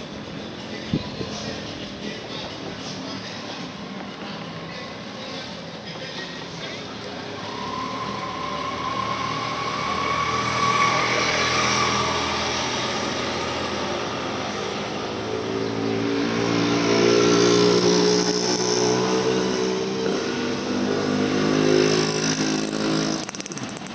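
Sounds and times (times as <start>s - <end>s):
motor vehicles passing: 0.0s - 23.9s.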